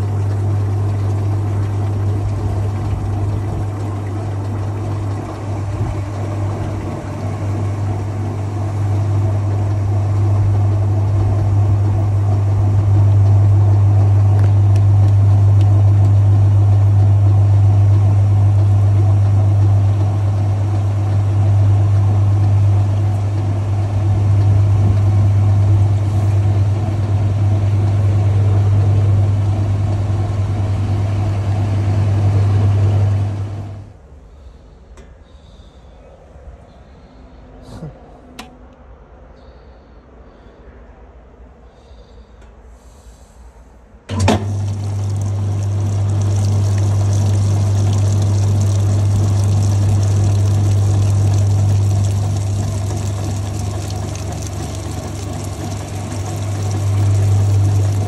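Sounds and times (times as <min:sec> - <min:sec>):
washing machine spin cycle hum: 0:00.0 - 0:35.2, 0:43.9 - 0:58.0.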